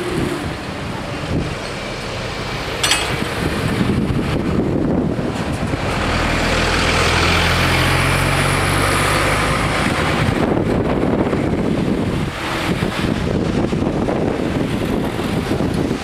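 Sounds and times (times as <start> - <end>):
bus diesel engine driving by: 0.0 - 16.0.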